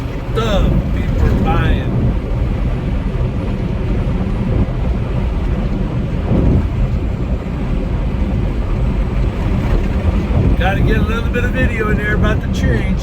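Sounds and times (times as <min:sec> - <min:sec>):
truck engine and road rumble: 0:00.0 - 0:13.0
wind buffeting: 0:00.0 - 0:13.0.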